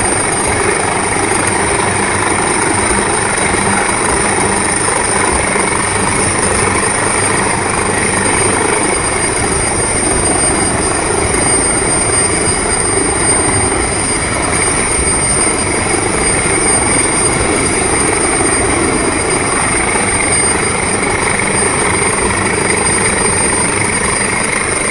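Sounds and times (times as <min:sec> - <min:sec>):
helicopter rotor and engine: 0:00.0 - 0:24.9.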